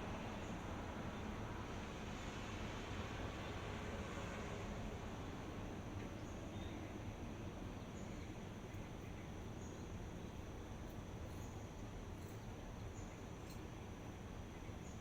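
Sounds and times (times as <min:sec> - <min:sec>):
outdoor ambient noise: 0:00.0 - 0:15.0.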